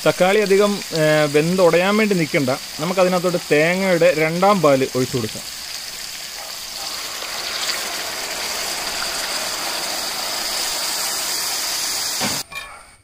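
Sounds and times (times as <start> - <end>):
liquid pouring into sizzling pan: 0.0 - 12.4.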